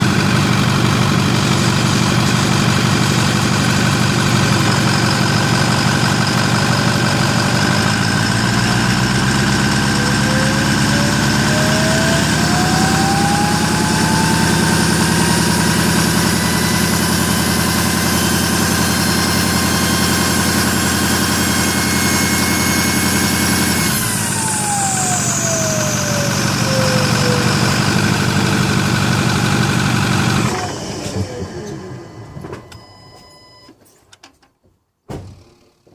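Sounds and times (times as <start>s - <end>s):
diesel engine revving: 0.0s - 32.8s
turbo whine: 4.5s - 33.7s.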